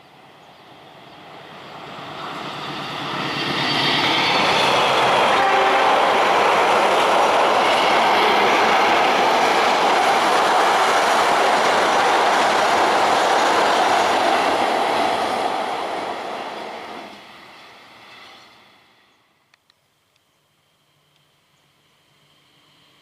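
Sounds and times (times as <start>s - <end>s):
train wheels rushing on rail: 0.0s - 19.2s.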